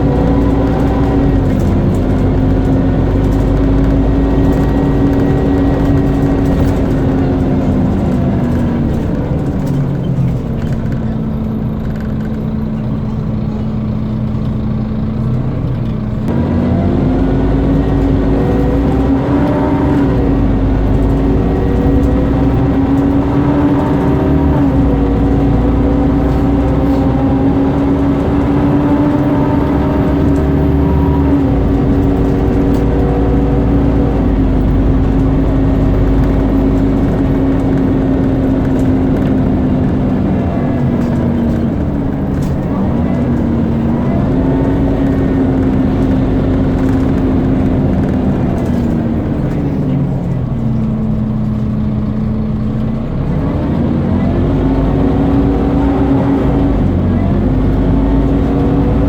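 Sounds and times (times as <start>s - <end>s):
bus engine whine: 0.0s - 59.0s
deep engine rumble: 0.0s - 59.0s.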